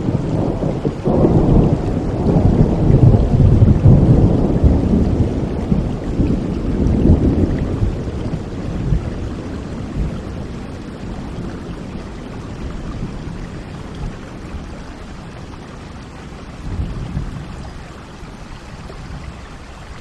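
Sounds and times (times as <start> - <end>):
rolling thunder rumble: 0.0 - 20.0
steady rain: 0.0 - 20.0.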